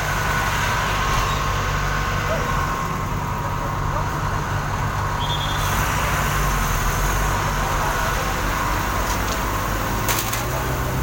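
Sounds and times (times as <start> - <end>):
heavy engine running: 0.0 - 11.0.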